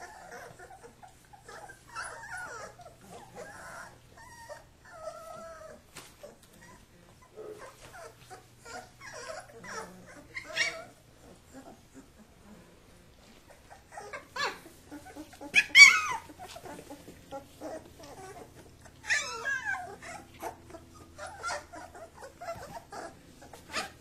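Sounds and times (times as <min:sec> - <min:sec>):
puppies crying: 0:00.0 - 0:12.6, 0:13.5 - 0:24.0.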